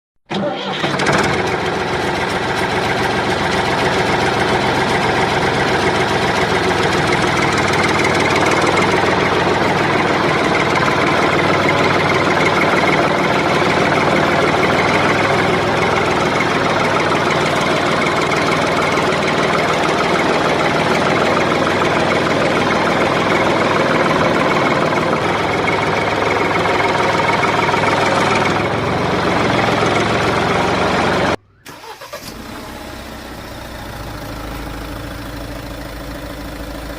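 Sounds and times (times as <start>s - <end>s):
diesel truck engine knocking: 1.1s - 31.4s, 33.5s - 36.9s.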